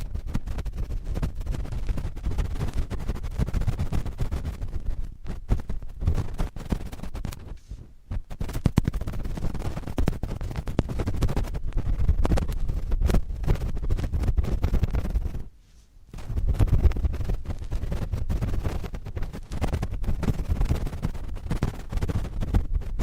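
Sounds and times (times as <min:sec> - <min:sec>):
cotton swabs scratching microphone: 0:00.0 - 0:23.0.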